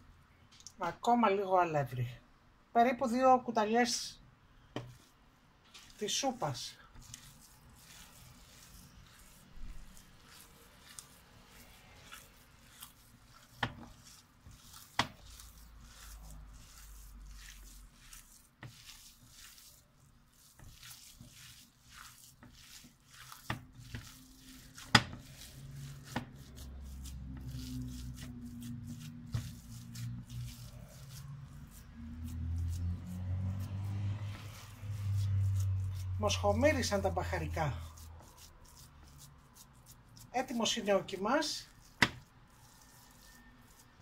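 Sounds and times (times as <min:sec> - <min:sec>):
hands squelching minced meat: 0:04.6 - 0:44.0.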